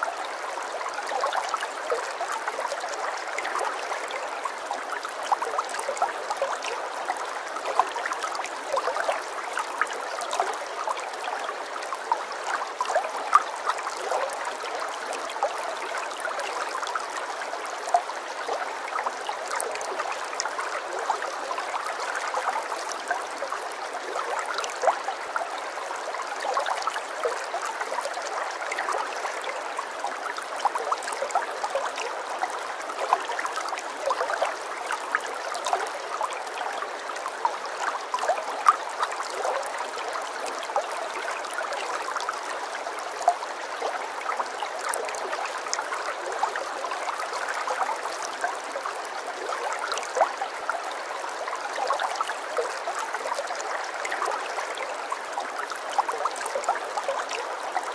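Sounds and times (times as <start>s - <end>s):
stream trickling: 0.0s - 57.9s.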